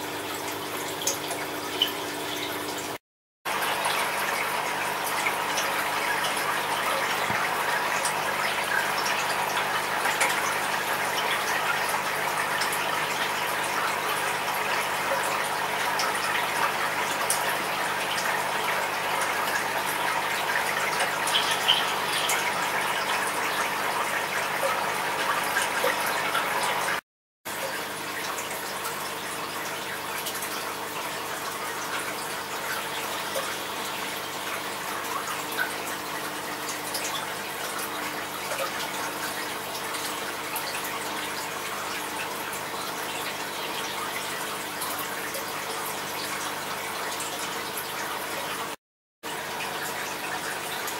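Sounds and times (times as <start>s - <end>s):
water splashing trickle: 0.0s - 50.9s.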